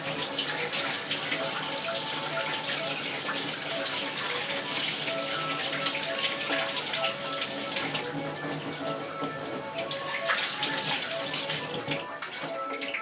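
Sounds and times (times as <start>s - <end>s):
tap water running and splashing: 0.0s - 13.0s.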